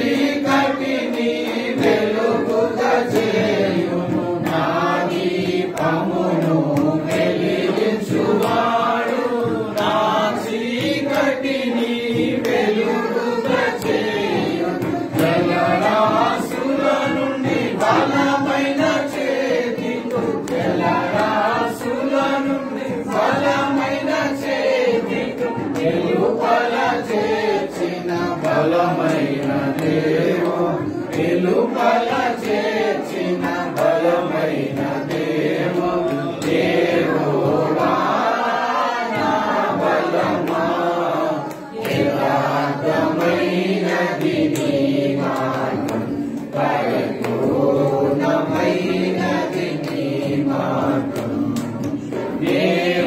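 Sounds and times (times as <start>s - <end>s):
voices singing devotional song: 0.0s - 53.0s.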